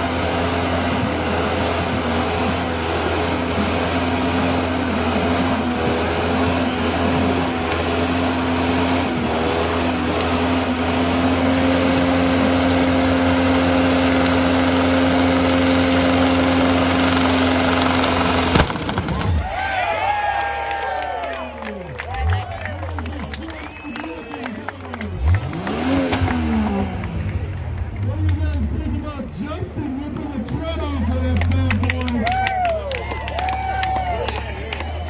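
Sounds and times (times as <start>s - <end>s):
car engine at high revs: 0.0s - 19.5s, 21.9s - 32.4s
tyres spinning on pavement: 0.0s - 35.0s.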